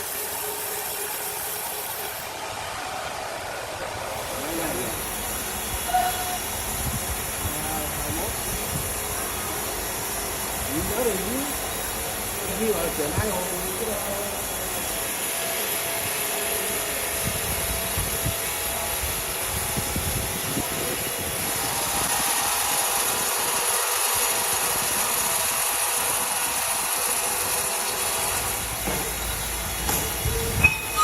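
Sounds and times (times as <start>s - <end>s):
bright hiss: 4.0s - 31.0s
motor running steadily: 4.0s - 31.0s.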